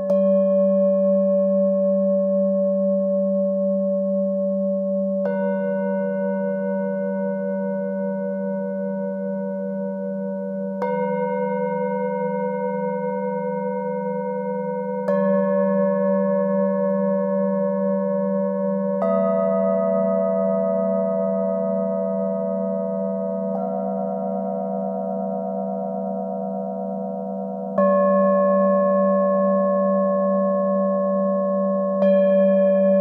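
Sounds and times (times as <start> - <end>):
singing bowls ringing: 0.0 - 33.0.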